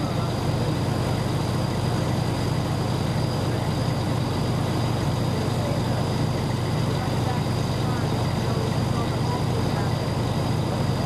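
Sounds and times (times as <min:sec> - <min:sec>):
vehicle engines idling: 0:00.0 - 0:11.0.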